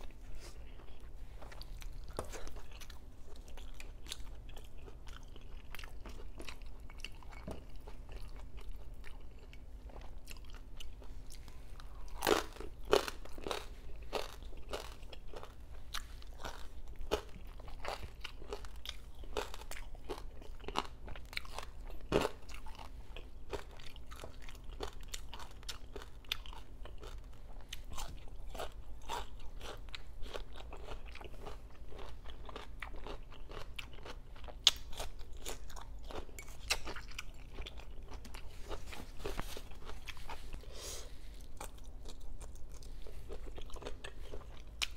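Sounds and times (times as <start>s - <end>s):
person crunching food: 0.0s - 44.9s.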